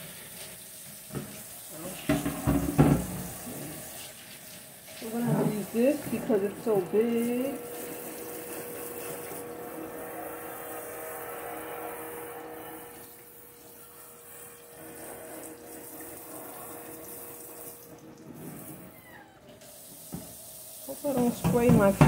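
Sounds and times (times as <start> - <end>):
water running into sink: 0.0 - 22.0.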